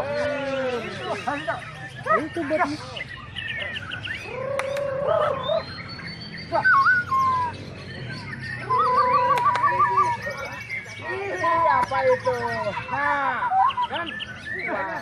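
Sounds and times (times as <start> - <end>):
bird whistling calls: 0.7 - 15.0.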